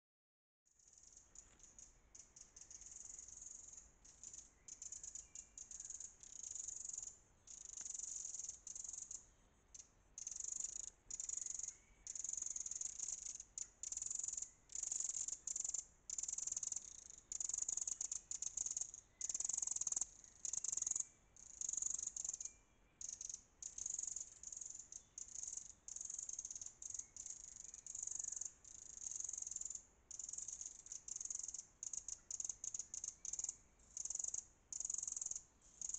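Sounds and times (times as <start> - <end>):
wren alarm call rattle: 0.8 - 35.9.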